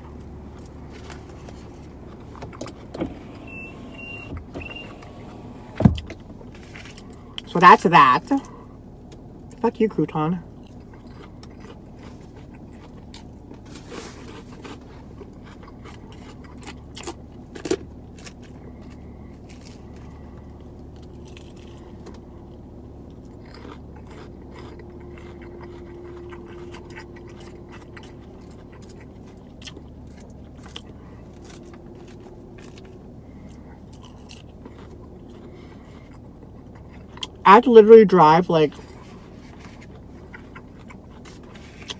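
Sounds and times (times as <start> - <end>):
crunching and chewing: 0.0 - 2.9, 6.0 - 7.5, 8.3 - 37.5, 38.7 - 41.9.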